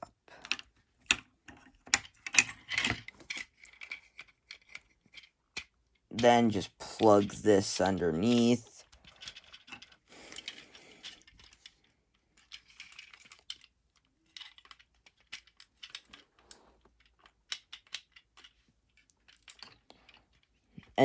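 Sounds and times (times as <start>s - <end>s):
small plastic parts clicking: 0.0s - 7.0s, 8.2s - 21.0s.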